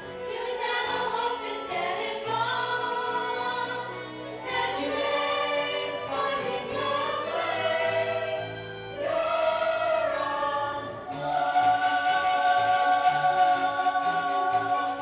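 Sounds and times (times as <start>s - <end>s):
choir singing held notes: 0.0s - 15.0s
instrumental accompaniment: 0.0s - 15.0s.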